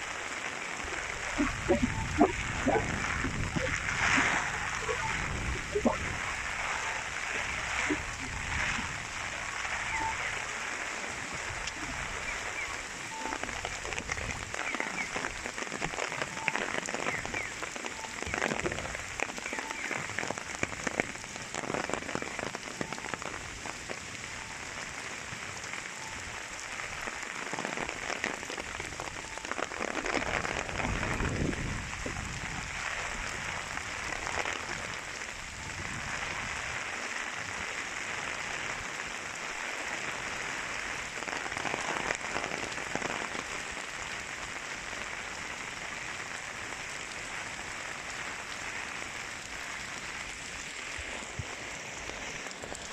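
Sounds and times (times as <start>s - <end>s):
heavy rain on the street: 0.0s - 52.9s.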